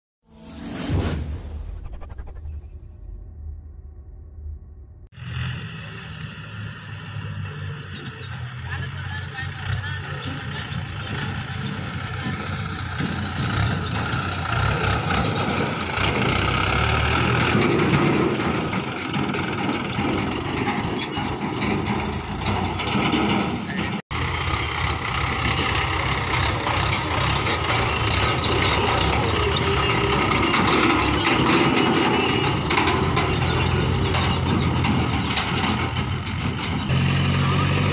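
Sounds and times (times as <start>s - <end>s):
tractor diesel engine running: 4.4s - 37.9s.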